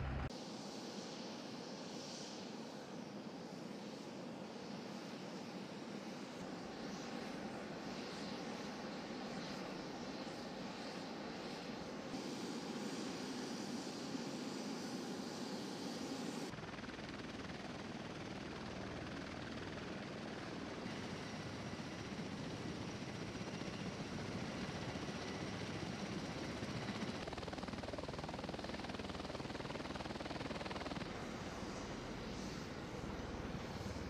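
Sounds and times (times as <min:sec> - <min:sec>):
aircraft rotors running with steady drone: 0:00.0 - 0:34.0
faint high whine: 0:00.0 - 0:34.0.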